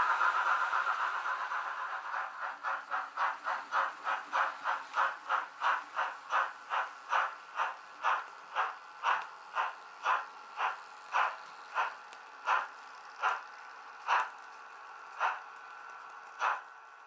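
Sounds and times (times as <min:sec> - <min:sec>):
model steam locomotive chuffs: 0:00.0 - 0:17.0.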